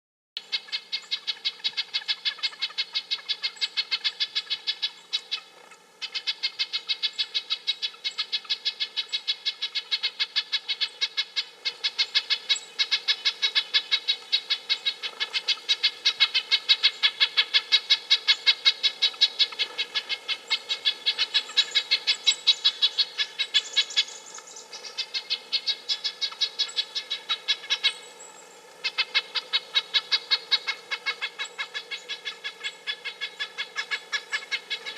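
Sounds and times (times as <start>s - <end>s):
nuthatch calling: 0.4s - 34.9s.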